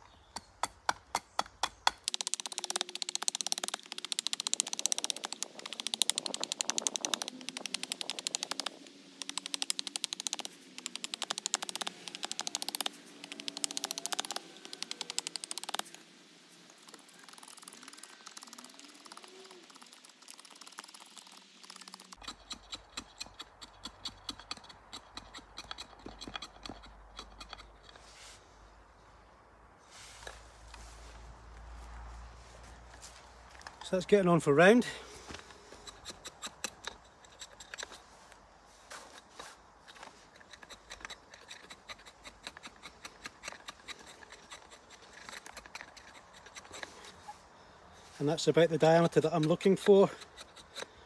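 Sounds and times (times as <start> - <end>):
knife scraping wood: 1.4 - 28.4, 35.0 - 47.4, 48.8 - 51.0.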